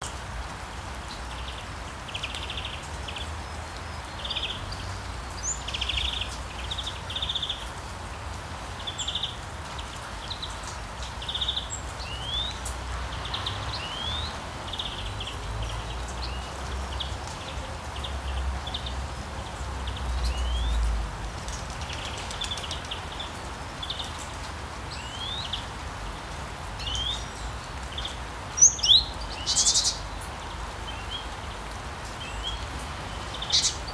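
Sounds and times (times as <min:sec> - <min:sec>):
songbirds singing and calling: 0:00.0 - 0:33.9.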